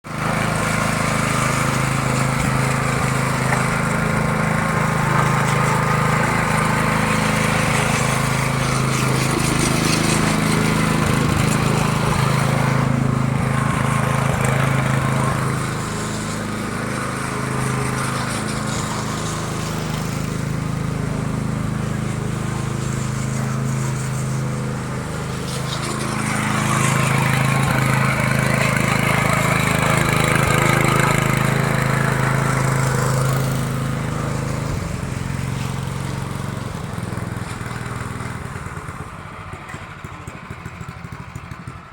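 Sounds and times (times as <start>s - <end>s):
small petrol engine running: 0.0s - 41.9s.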